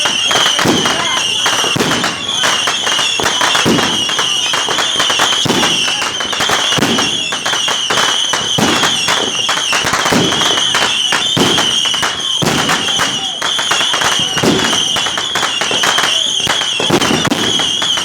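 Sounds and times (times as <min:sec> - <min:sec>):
deep firework bangs: 0:00.0 - 0:18.0
fireworks crackling: 0:00.0 - 0:18.0.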